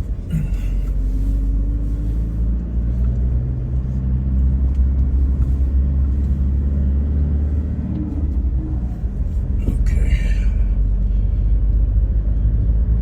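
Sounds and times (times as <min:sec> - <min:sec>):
vehicle rumbling over rough road: 0:00.0 - 0:13.0.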